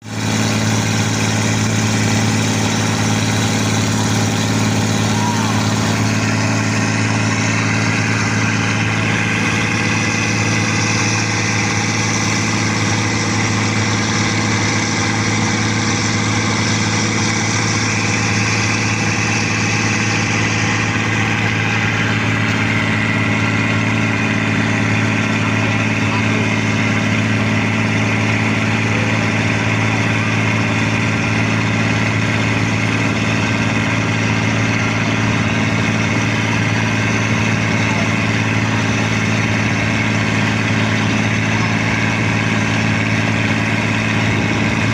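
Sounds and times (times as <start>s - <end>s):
boat engine running: 0.0s - 44.9s.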